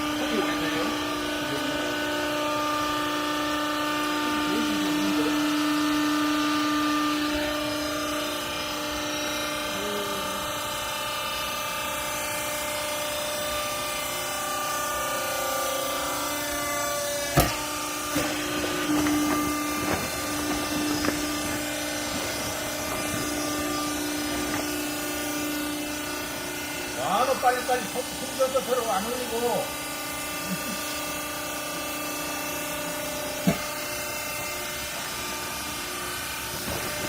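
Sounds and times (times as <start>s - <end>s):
baler motor and pump humming: 0.0s - 37.0s.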